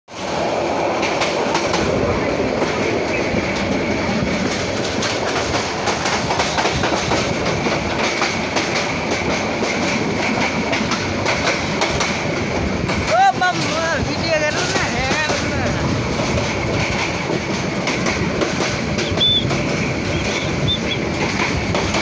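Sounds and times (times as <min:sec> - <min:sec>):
train wheels rumbling on rails: 0:00.1 - 0:22.0
wheels clicking and clattering: 0:01.0 - 0:22.0.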